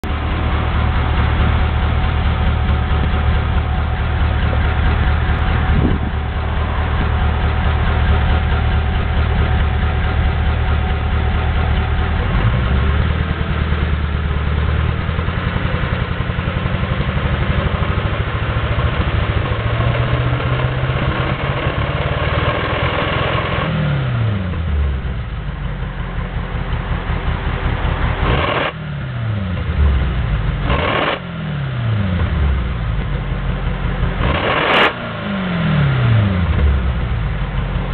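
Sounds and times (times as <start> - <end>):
car engine revving: 0.0 - 25.3, 26.1 - 33.2, 33.8 - 37.9.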